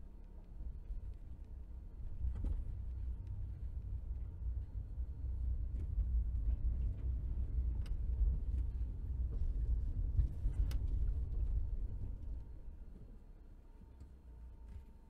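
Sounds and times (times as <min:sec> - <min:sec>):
engine and road noise in car: 0:00.0 - 0:15.0.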